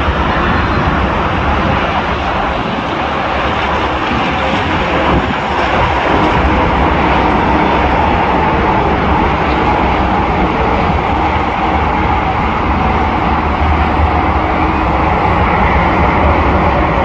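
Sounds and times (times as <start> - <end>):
jet airliner engines rushing: 0.0 - 17.0.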